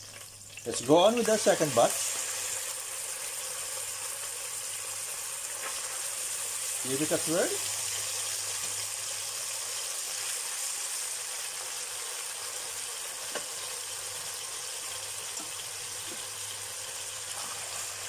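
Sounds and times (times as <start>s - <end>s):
meat sizzling in oil: 0.0s - 18.0s.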